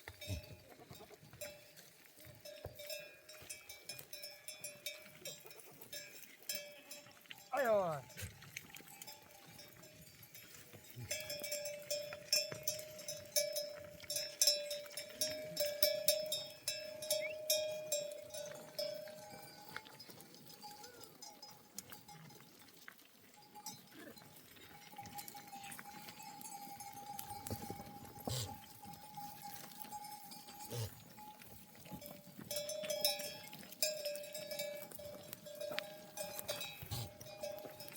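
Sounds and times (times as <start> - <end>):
sheep bells clanking: 0.0 - 37.9.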